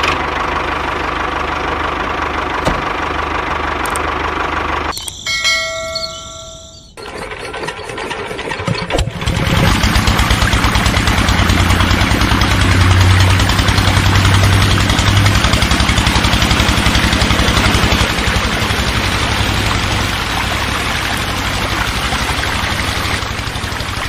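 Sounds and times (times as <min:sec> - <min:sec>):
small engine starting and chugging: 0:00.0 - 0:24.0.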